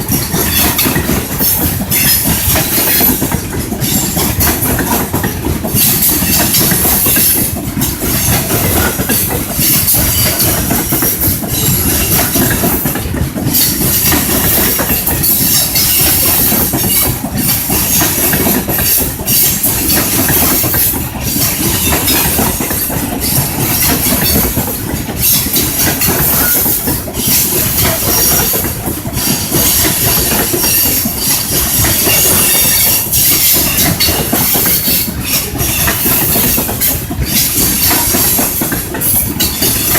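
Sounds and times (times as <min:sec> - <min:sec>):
train cars rumbling on rails: 0:00.0 - 0:39.9.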